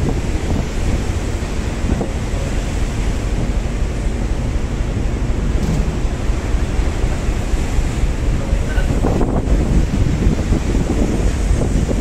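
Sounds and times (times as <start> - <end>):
wind and surf roaring: 0.0 - 12.0
wind buffeting microphone: 0.0 - 12.0.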